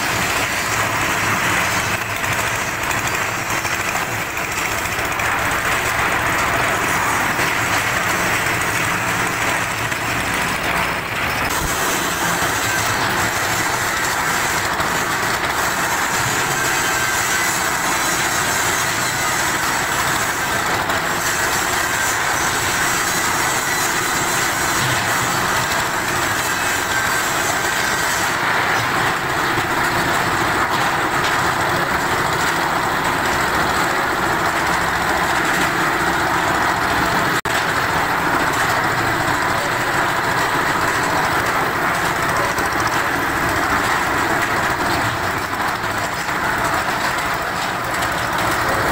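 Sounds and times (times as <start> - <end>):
concrete mixer engine running: 0.0 - 48.9.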